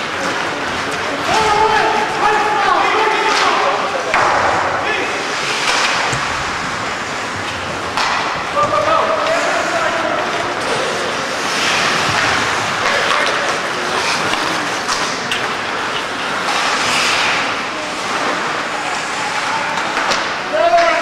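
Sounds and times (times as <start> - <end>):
hockey sticks and puck clicking: 0.0 - 21.0
skates scraping on ice: 0.0 - 21.0.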